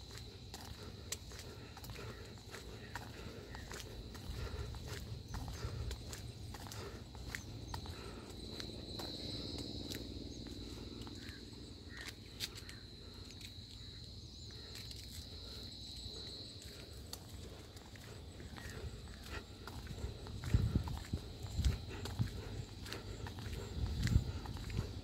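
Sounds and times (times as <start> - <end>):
footsteps: 0.0 - 12.7, 14.6 - 25.0
insects droning: 0.0 - 25.0.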